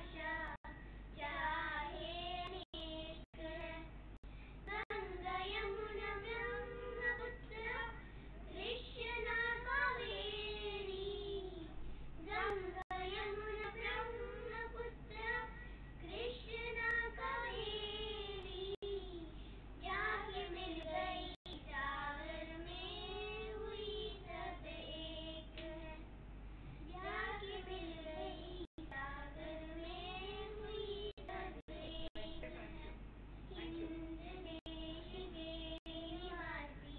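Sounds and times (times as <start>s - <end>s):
girls singing together: 0.0s - 4.0s, 4.7s - 26.1s, 26.9s - 36.9s.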